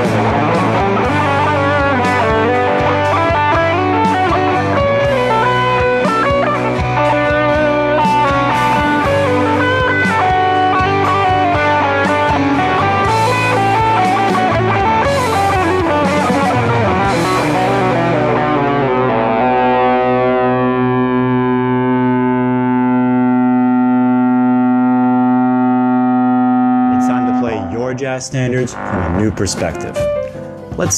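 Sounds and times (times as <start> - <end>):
distorted electric guitar: 0.0 - 30.6.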